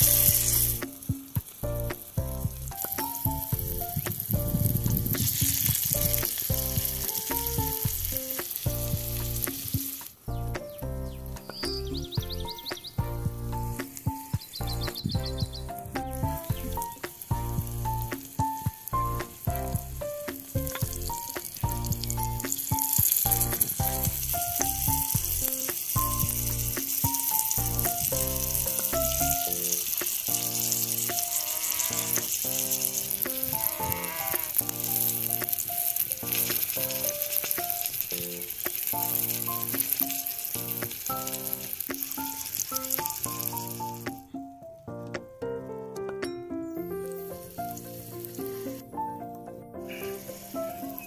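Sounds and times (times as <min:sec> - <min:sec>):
oil sizzling in a pan: 0:00.0 - 0:10.4, 0:11.2 - 0:44.2, 0:47.0 - 0:48.9, 0:49.9 - 0:51.0
background music with melody: 0:00.0 - 0:51.0.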